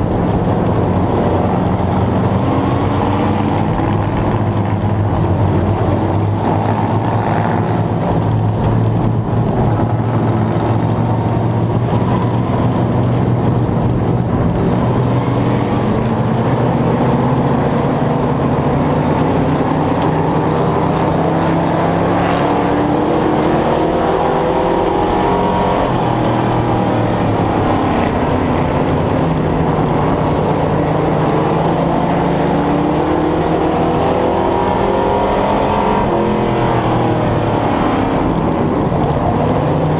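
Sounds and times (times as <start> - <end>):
race car engine running loud: 0.0 - 39.9.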